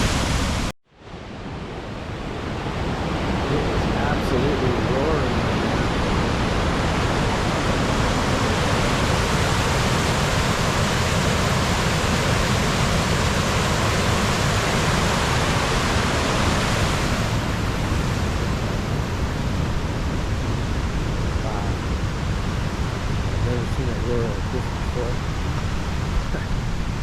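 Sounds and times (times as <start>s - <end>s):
waterfall roaring: 0.0s - 0.7s, 1.3s - 27.0s.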